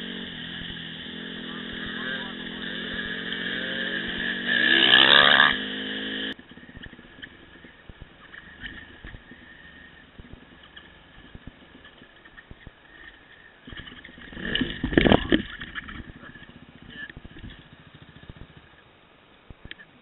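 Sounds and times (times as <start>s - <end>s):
dirt bike engine at low revs: 0.0s - 20.0s.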